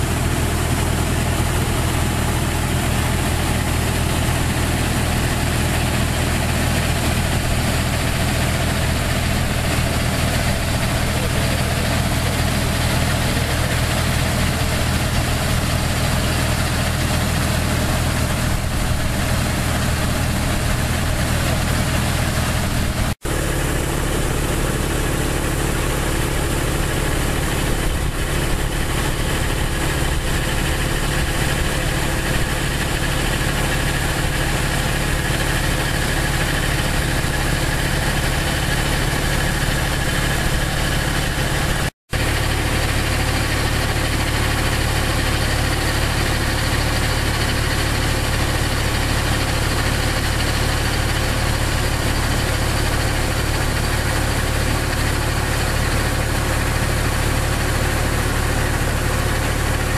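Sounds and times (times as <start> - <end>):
engine humming: 0.0 - 59.9
wind: 0.0 - 59.9.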